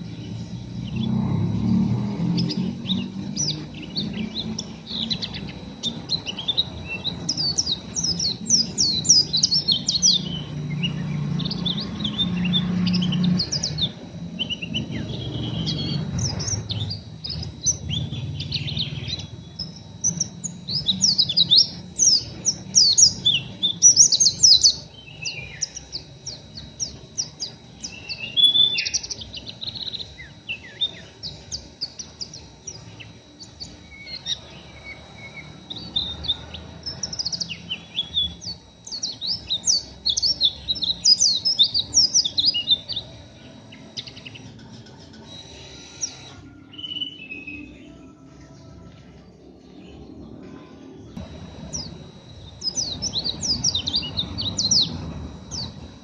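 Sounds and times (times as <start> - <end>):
bird twittering rapidly: 0.0 - 47.2, 51.2 - 56.0.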